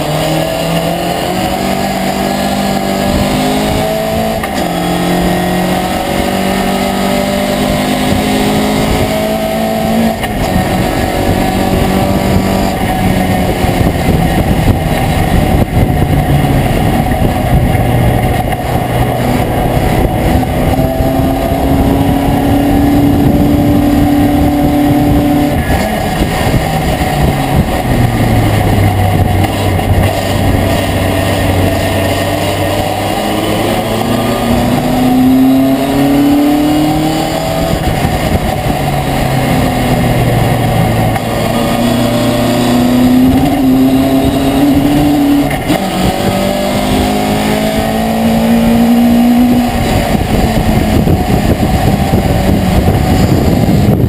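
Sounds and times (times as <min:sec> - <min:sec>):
road and wind noise: 0:00.0 - 0:54.0
truck engine revving: 0:00.0 - 0:54.0.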